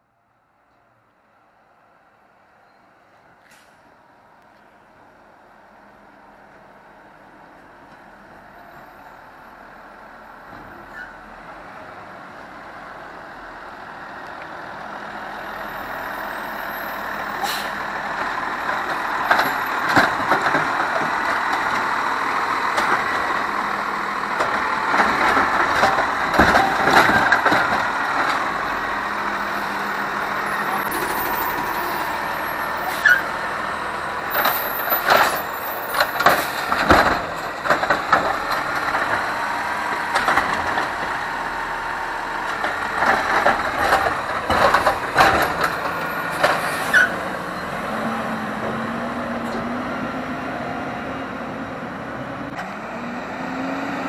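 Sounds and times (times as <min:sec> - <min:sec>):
garbage truck engine: 0:03.4 - 0:54.0.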